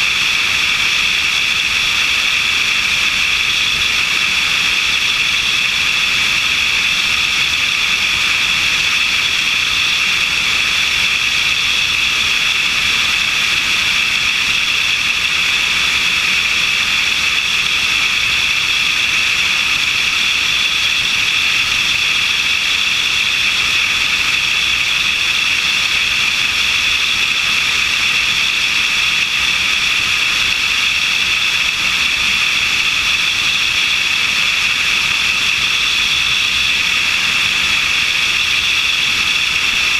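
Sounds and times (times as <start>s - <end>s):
engine and propeller drone: 0.0s - 39.9s.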